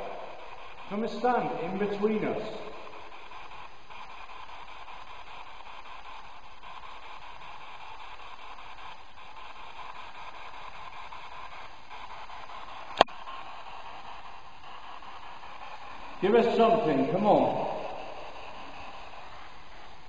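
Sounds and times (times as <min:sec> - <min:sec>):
recording hiss: 0:00.0 - 0:20.0.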